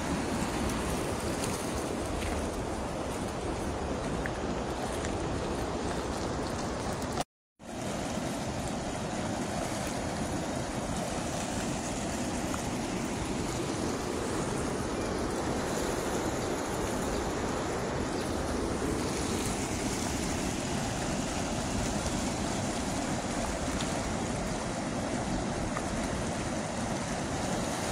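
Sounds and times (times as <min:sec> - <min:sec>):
fast-flowing river water: 0:00.0 - 0:27.9.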